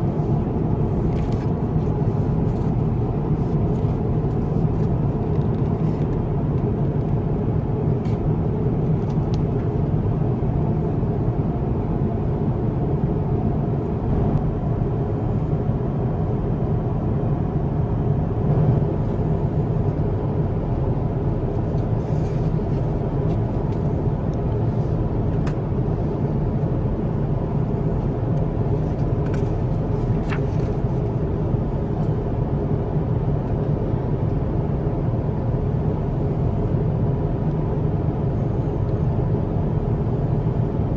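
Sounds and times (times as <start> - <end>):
aircraft cabin rumble: 0.0 - 40.9.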